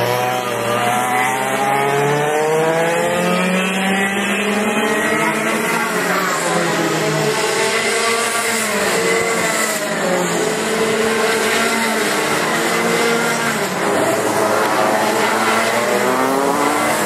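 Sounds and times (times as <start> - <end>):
racing kart engines revving: 0.0 - 17.0.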